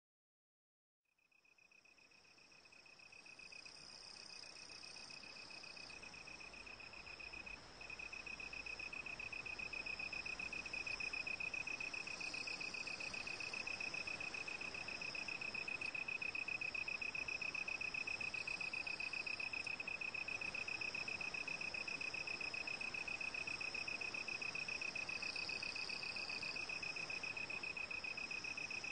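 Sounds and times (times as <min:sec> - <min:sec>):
insect trill: 0:01.3 - 0:28.9.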